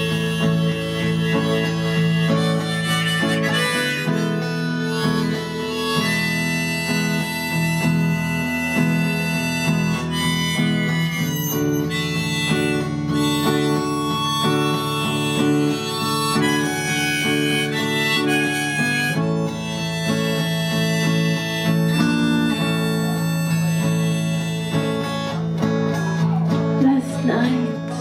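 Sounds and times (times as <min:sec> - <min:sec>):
held melody notes: 0:00.0 - 0:28.0
plucked rhythmic accompaniment: 0:00.0 - 0:28.0.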